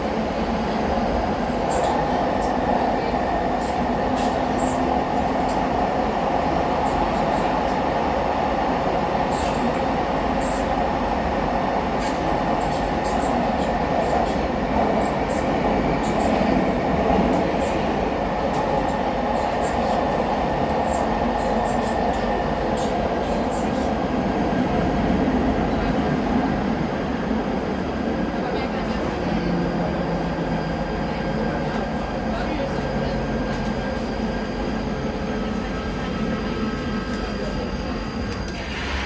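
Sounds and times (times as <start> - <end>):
light-rail traction whine: 0.0 - 39.0.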